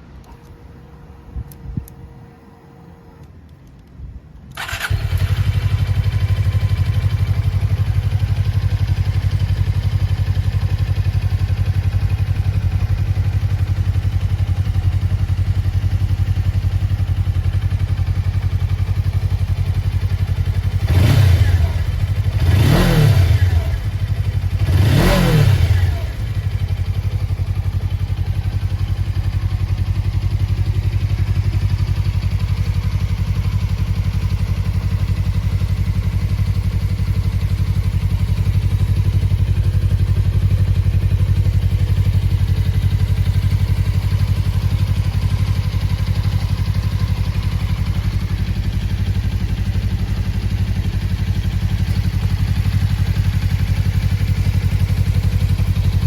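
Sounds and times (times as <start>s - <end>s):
motorcycle engine revving and idling: 4.5s - 56.0s.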